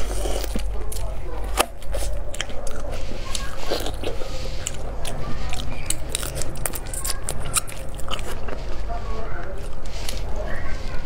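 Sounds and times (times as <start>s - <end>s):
shrimp shells crunching while chewing: 0.0s - 10.3s.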